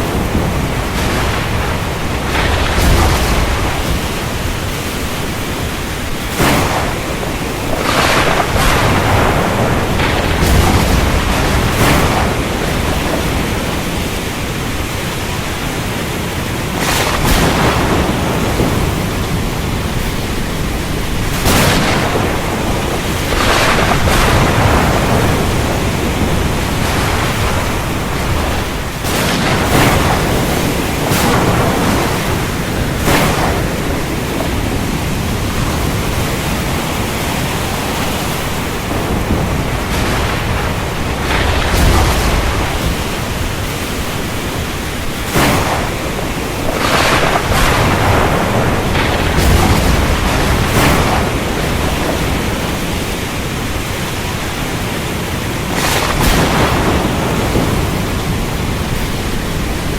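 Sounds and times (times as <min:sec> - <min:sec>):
rain hiss: 0:00.0 - 0:59.9
thunder cracks: 0:00.0 - 0:59.9.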